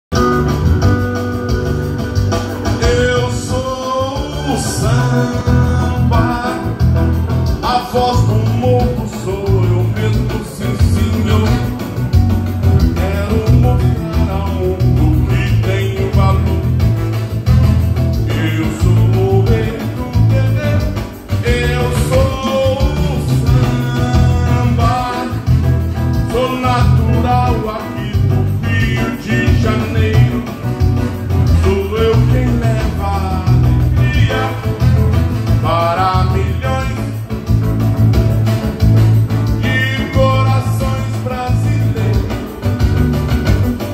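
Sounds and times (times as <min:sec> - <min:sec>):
bass beat: 0:00.1 - 0:43.9
electric guitar: 0:00.1 - 0:43.9
keyboard: 0:00.1 - 0:43.9
live dance band playing: 0:00.1 - 0:43.9
man singing into a microphone: 0:02.6 - 0:17.0, 0:18.1 - 0:37.5, 0:39.5 - 0:42.7.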